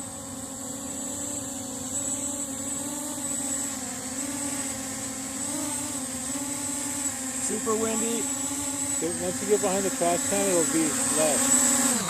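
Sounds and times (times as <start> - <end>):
quadcopter rotors whining hum: 0.0 - 12.0.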